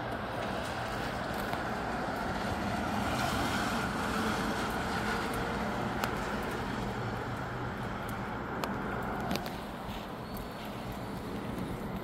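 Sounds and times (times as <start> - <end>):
steady rain: 0.0 - 12.0
wind: 0.0 - 12.0.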